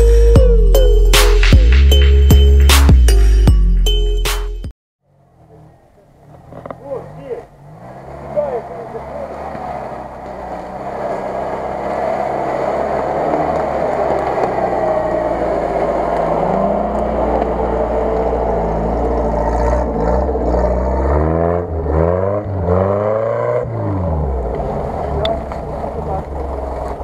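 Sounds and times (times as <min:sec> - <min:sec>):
engine revving: 0:05.0 - 0:27.0
off-road vehicle engine running: 0:05.0 - 0:27.0
vehicle driving through tall grass: 0:05.0 - 0:27.0.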